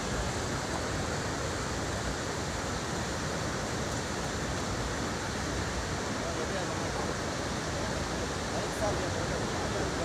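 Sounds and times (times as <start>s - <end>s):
mudflow rushing: 0.0s - 10.0s.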